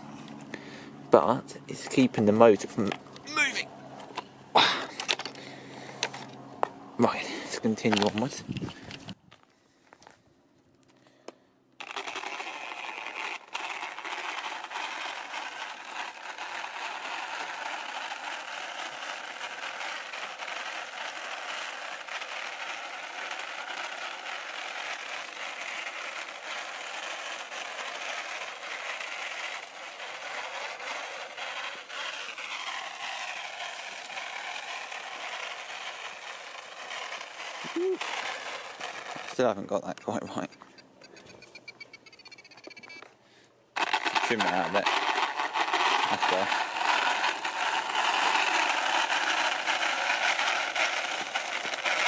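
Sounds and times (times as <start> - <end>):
rc car rattling whirr on tarmac: 0.0 - 10.2, 10.8 - 43.1, 43.7 - 52.0.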